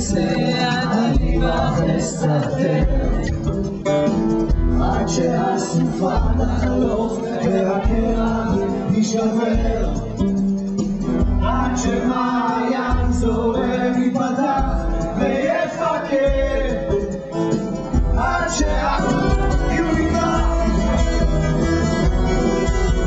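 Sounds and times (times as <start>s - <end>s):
person singing: 0.0s - 3.6s, 4.8s - 10.3s, 11.4s - 22.1s
live rock band playing: 0.0s - 23.0s.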